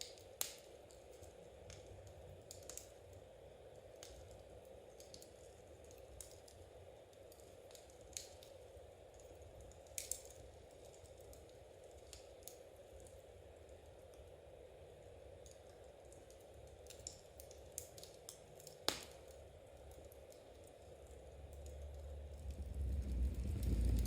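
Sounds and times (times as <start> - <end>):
fire crackling: 0.0 - 24.0
low steady hiss: 0.0 - 24.0.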